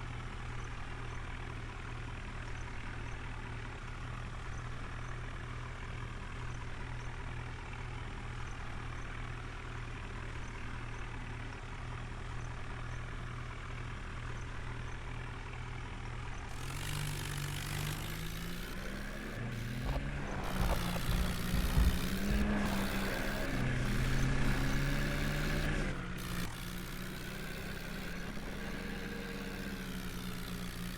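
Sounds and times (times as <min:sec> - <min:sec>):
tractor engine running and revving: 0:00.0 - 0:30.9.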